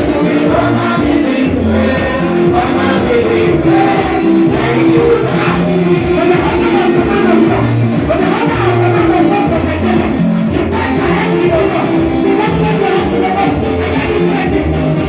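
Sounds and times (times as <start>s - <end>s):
live worship band music: 0.0s - 15.0s
moving bass line: 0.0s - 15.0s.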